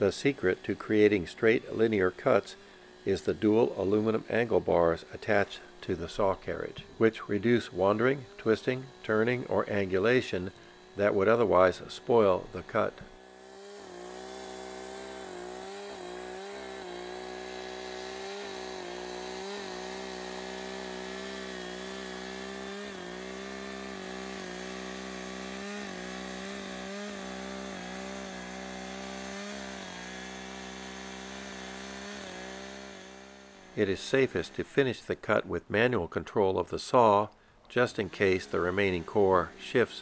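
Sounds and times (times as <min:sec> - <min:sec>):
chainsaw cutting through log: 0:00.0 - 0:35.5, 0:36.9 - 0:40.0.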